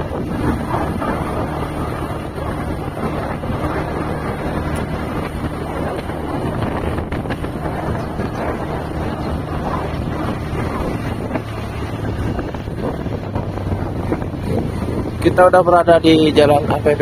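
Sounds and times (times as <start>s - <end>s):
vehicle droning on road: 0.0s - 17.0s
wind rushing over microphone: 0.0s - 17.0s.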